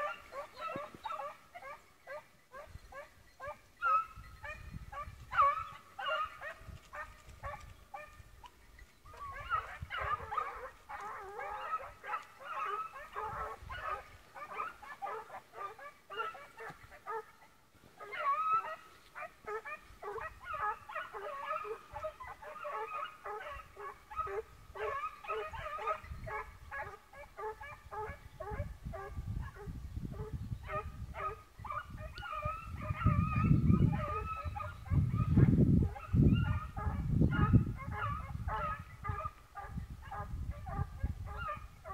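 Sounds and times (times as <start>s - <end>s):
hounds baying: 0.0s - 41.9s.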